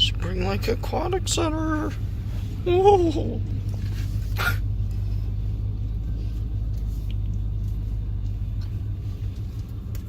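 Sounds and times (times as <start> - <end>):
car engine rumble inside cabin: 0.0 - 10.0.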